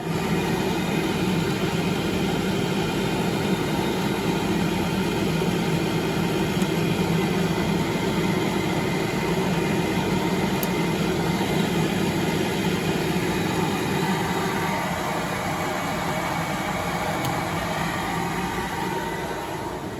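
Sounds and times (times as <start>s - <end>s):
machine hum: 0.0s - 19.9s.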